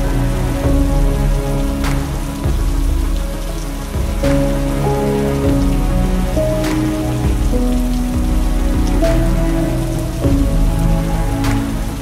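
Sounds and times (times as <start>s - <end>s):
heavy rain: 0.0s - 12.0s
slow background music: 0.0s - 12.0s.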